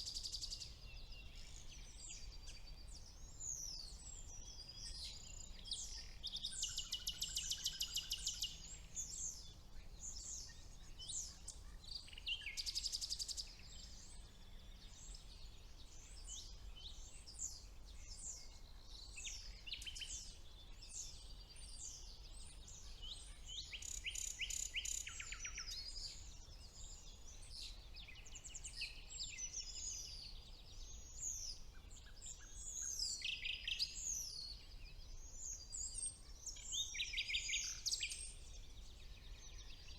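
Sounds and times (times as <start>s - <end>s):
nightingale trills: 0.0s - 39.9s
songbirds chirping and whistling: 0.0s - 39.9s.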